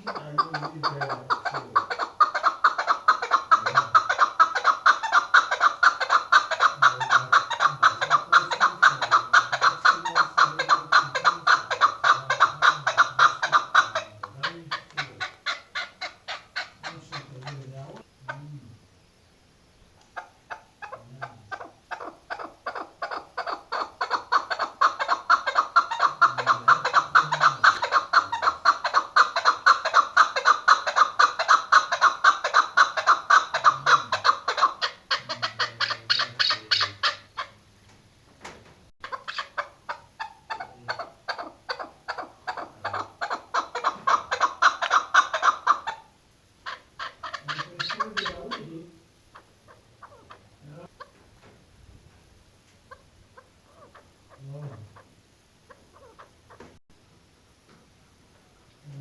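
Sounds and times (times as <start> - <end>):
partridge clucking calls: 0.0 - 18.6, 20.0 - 37.6, 38.4 - 51.5, 52.8 - 56.8.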